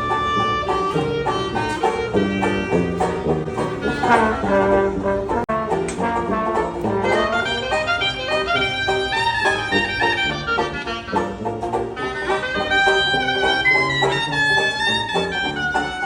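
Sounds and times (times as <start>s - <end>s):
live band playing upbeat tune: 0.0s - 16.0s
trombone melody: 0.0s - 16.0s.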